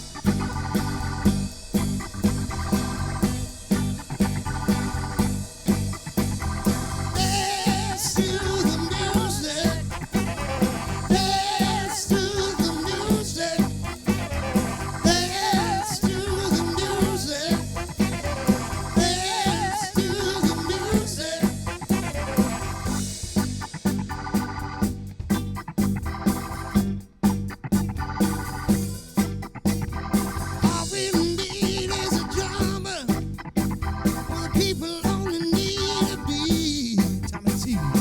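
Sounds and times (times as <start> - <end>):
soul-funk band playing: 0.0 - 38.0.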